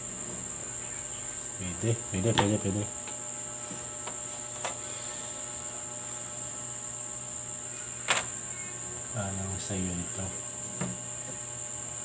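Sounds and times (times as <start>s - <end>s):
electrical hum: 0.0s - 12.0s
thin high whine: 0.0s - 12.0s.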